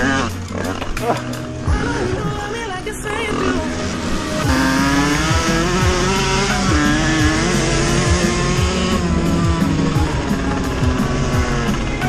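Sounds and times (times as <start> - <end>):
background music with bass beat: 0.0 - 12.0
moped engine running hard: 0.0 - 12.0.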